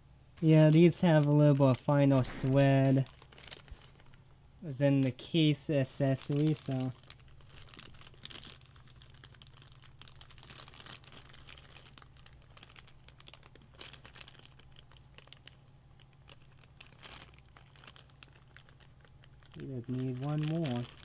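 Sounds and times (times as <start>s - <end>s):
steady low hum: 0.0s - 21.0s
plastic bag crinkling: 0.4s - 21.0s.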